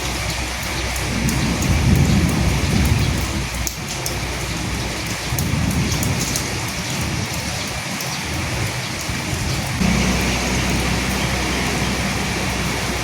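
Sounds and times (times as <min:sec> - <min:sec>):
rain hiss: 0:00.0 - 0:13.0
raindrops ticking: 0:00.0 - 0:13.0.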